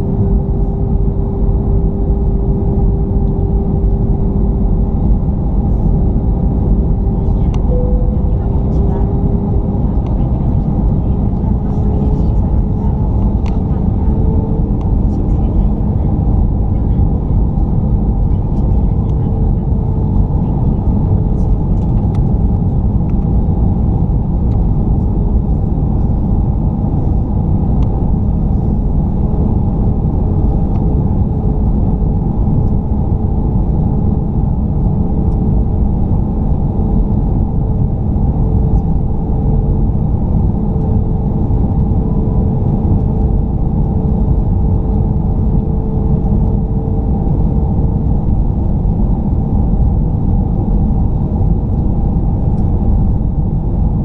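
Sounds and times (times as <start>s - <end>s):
faint steady hum: 0.0s - 54.0s
jet cabin engine rumble: 0.0s - 54.0s.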